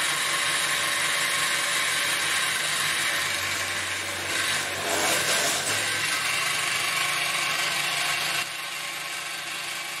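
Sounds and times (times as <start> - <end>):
drill press whirring: 0.0 - 10.0.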